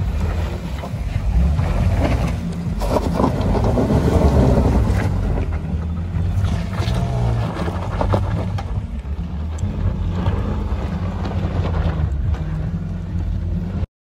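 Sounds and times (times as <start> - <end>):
car engine running under load: 0.0 - 13.9
tyres on loose dirt and rock: 0.0 - 13.9.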